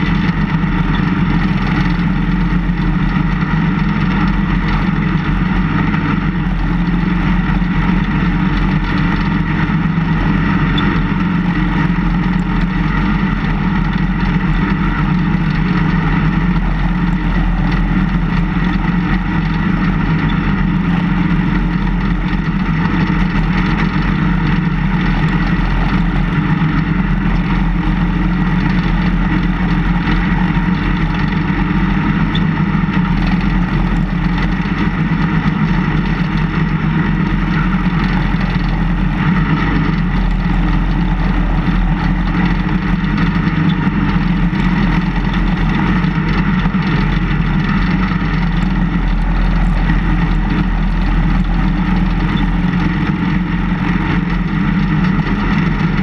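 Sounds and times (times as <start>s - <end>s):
snowplow engine running: 0.0s - 56.0s.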